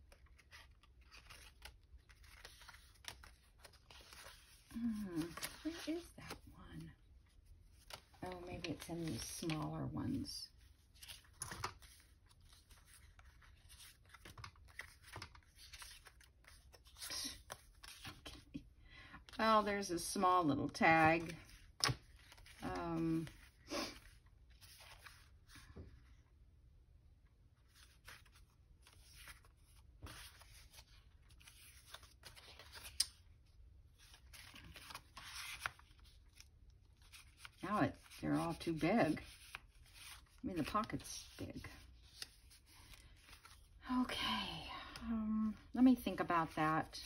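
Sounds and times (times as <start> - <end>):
paper rustling: 0.0 - 6.5, 7.3 - 18.5, 20.9 - 25.8, 27.6 - 43.7.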